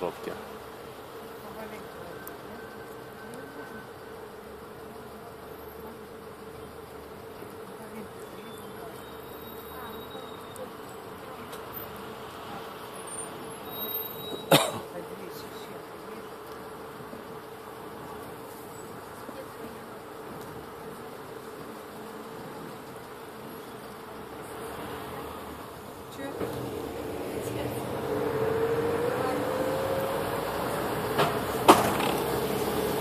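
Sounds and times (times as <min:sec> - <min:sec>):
bus engine droning hum: 0:00.0 - 0:33.0.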